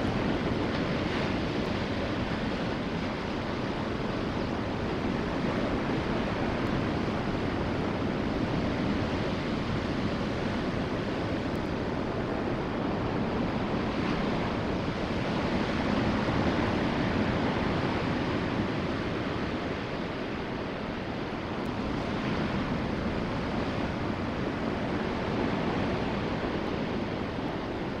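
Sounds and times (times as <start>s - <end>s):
ocean surf: 0.0s - 28.0s
wind on microphone: 0.0s - 28.0s.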